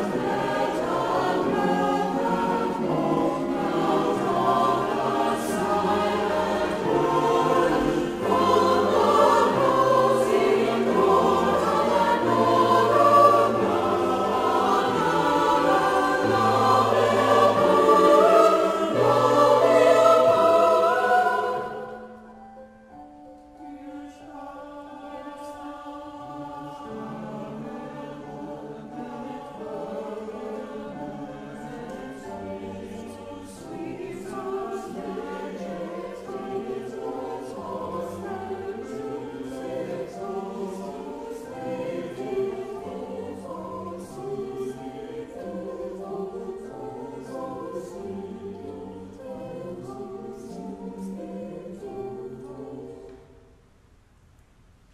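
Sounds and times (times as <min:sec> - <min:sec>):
mixed choir singing in harmony: 0:00.0 - 0:53.6.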